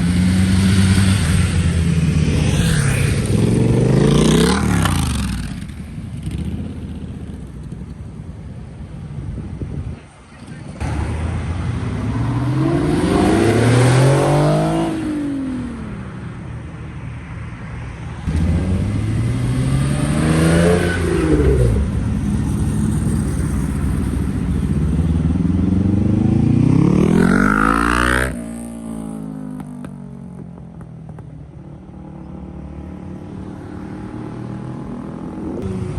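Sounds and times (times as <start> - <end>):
car engines revving: 0.0 - 8.0, 10.3 - 16.6, 18.2 - 35.9.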